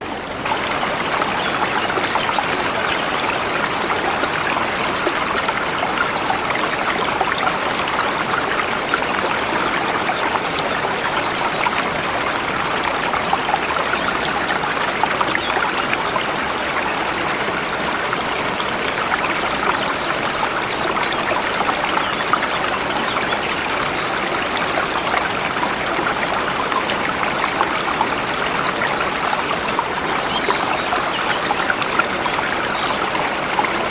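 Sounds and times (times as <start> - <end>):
river flowing over rocks: 0.0 - 33.9.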